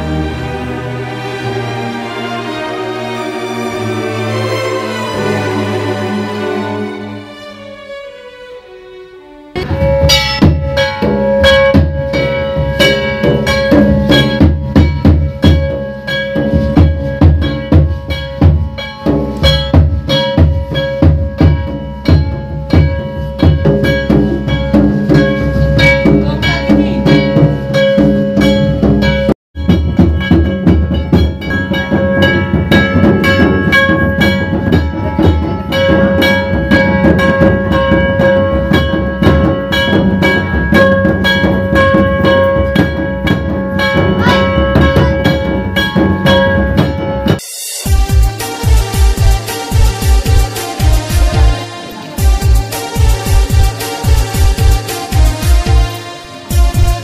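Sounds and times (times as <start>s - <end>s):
sustained melody line: 0.0s - 57.0s
fast heavy drumming: 9.6s - 57.0s.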